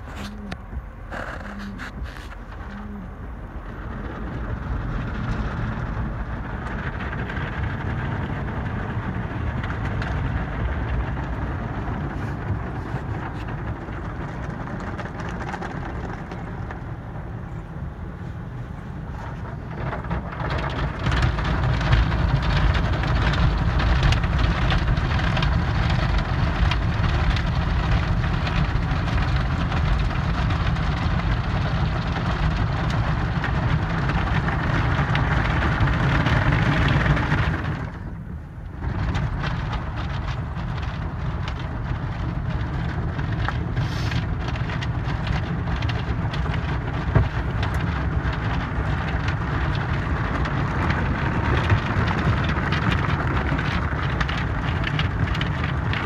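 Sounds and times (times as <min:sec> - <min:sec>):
water spraying on car: 0:01.7 - 0:56.0.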